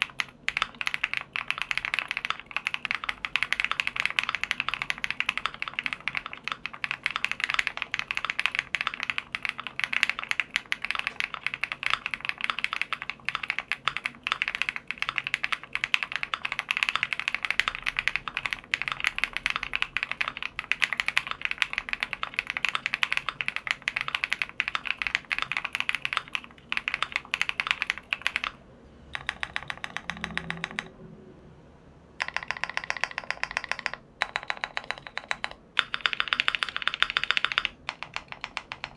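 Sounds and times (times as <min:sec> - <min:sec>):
fast typing on mechanical keyboard: 0:00.0 - 0:30.9, 0:32.2 - 0:38.9.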